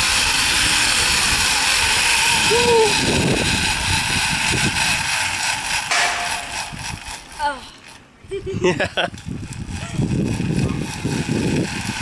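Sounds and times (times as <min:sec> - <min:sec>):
pulleys whirring along steel cable: 0:00.0 - 0:08.1, 0:09.1 - 0:12.0.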